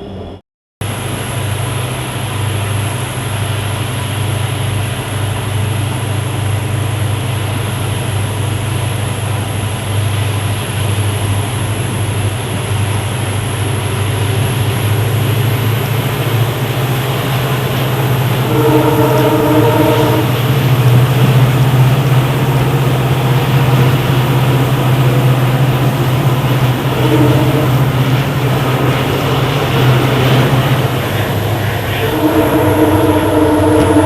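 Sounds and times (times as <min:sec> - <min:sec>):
train low rumble: 0:00.0 - 0:34.0
train hiss: 0:00.9 - 0:34.0.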